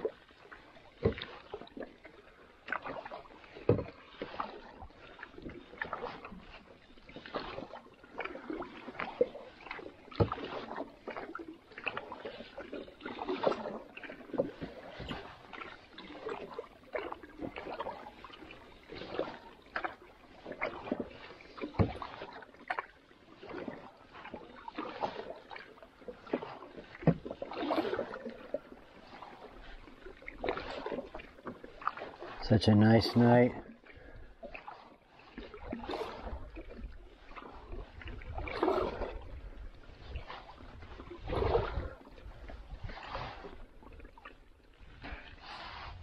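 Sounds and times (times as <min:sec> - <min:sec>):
paddle strokes in water: 0:00.0 - 0:46.0.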